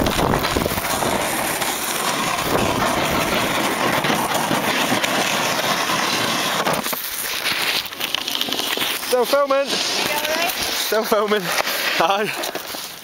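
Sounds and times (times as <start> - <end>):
snowboard scraping icy snow: 0.0 - 13.0.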